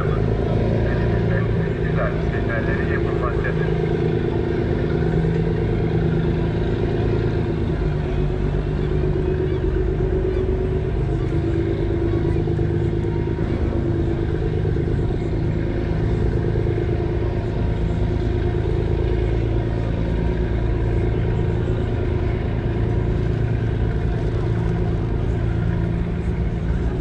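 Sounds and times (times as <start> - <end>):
engine running with low hum: 0.0 - 27.0.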